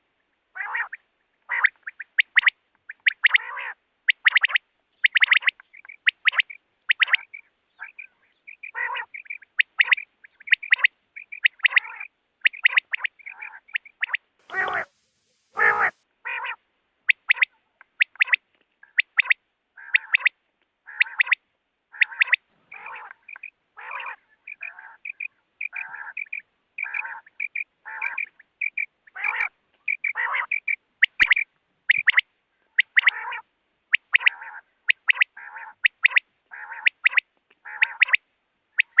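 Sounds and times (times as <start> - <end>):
quail calling: 0.6 - 39.0.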